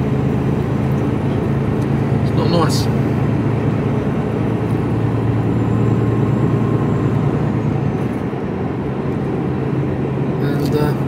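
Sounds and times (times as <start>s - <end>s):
truck engine drone and road noise: 0.0s - 11.0s.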